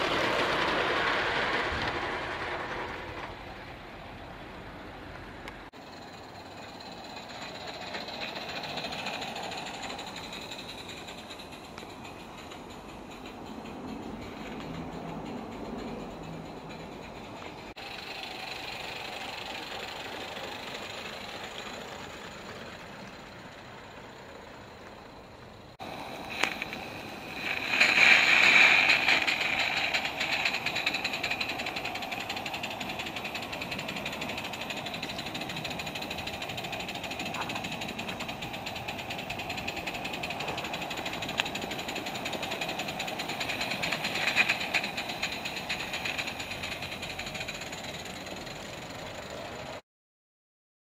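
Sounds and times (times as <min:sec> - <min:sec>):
steady steam hiss: 0:00.0 - 0:49.8
steam locomotive exhaust beats: 0:00.0 - 0:49.8.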